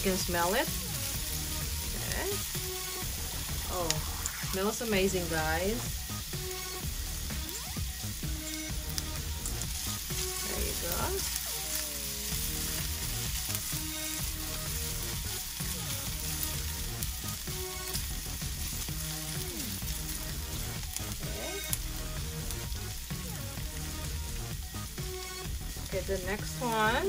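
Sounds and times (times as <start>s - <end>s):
tongs stirring in a pan: 0.0s - 27.0s
vegetables sizzling in hot oil: 0.0s - 27.0s.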